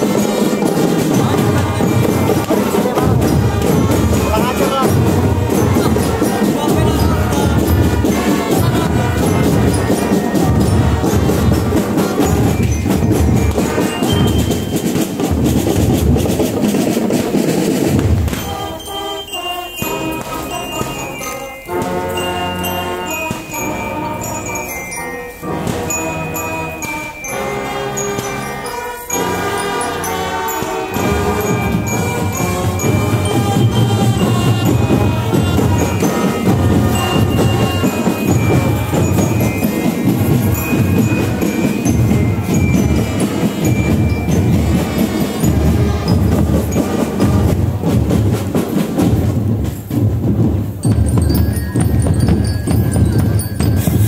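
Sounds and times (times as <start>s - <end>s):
heavy drumline: 0.0s - 54.0s
mallet percussion: 0.0s - 54.0s
marching band playing: 0.0s - 54.0s.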